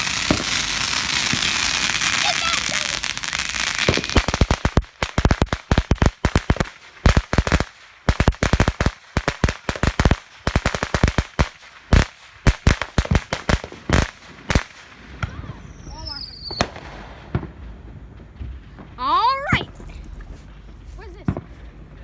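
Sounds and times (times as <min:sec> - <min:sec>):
firecrackers banging: 0:00.0 - 0:22.0.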